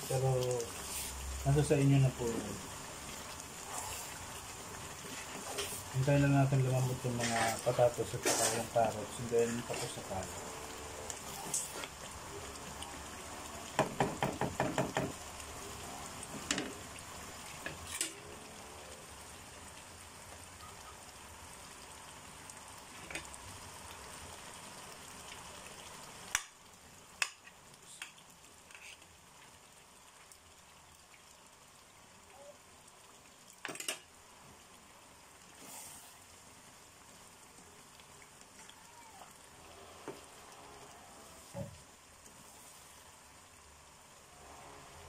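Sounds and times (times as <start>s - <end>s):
stew sizzling: 0.0s - 45.0s.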